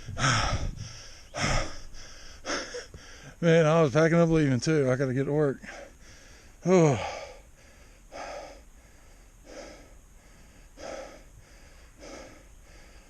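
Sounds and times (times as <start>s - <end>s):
man breathing heavily: 0.0s - 3.4s, 5.6s - 13.0s.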